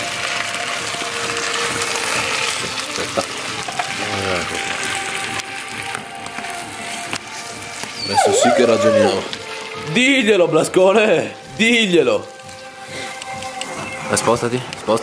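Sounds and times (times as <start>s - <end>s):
food sizzling in a pan: 0.0s - 10.2s, 10.9s - 15.0s.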